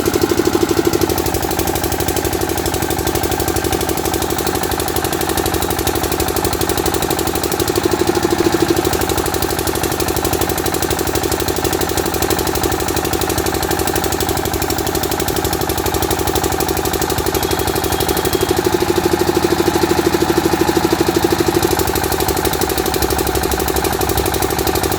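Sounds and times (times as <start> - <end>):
generator engine running: 0.0 - 24.9.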